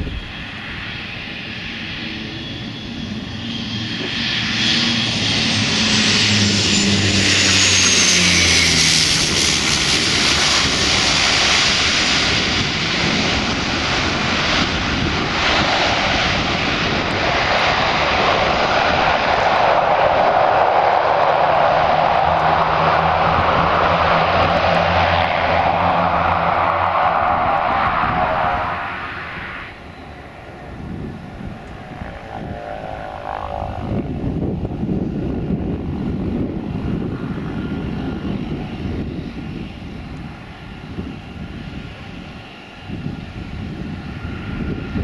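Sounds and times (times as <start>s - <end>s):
turboprop plane landing: 0.0s - 45.0s.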